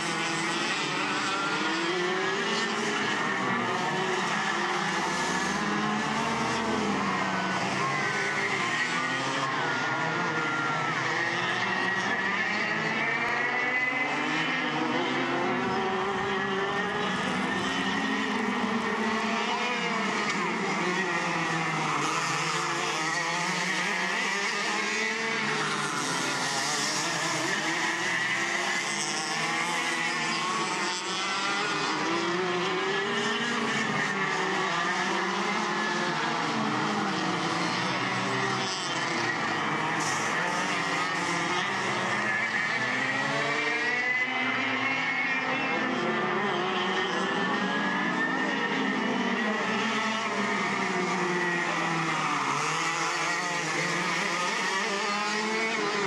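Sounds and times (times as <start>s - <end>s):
go-kart engines revving: 0.0s - 56.0s.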